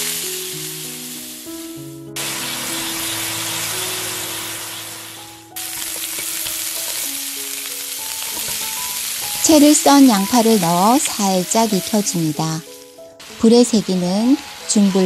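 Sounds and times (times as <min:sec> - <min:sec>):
meat sizzling in a frying pan: 0:00.0 - 0:15.0
soft background music: 0:00.0 - 0:15.0.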